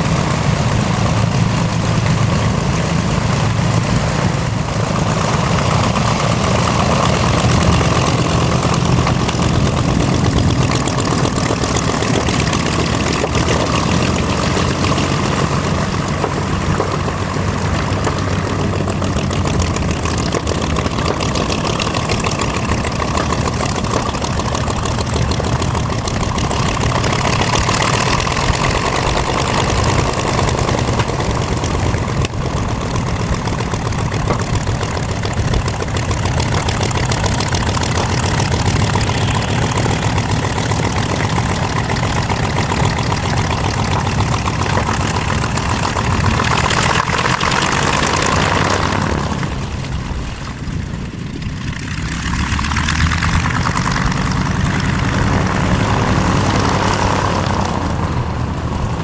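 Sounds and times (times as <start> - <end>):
aircraft engines rumbling: 0.0 - 59.0.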